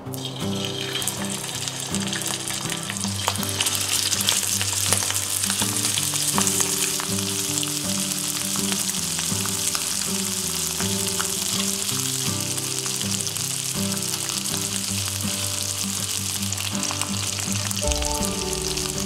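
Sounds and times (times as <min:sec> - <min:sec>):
chicken sizzling in a frying pan: 0:00.0 - 0:19.0
soft background music: 0:00.0 - 0:19.0.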